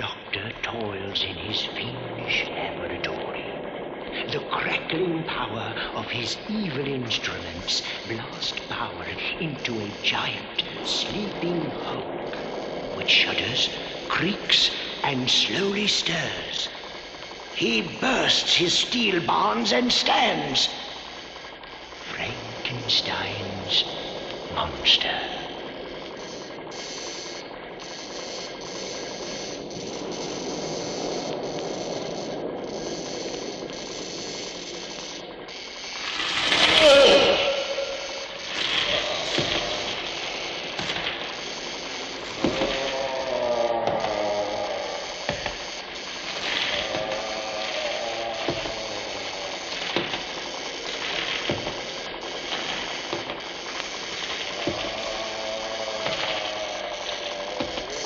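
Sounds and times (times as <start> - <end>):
crackling electrical hiss: 0.0 - 58.0
pitched drone: 0.0 - 58.0.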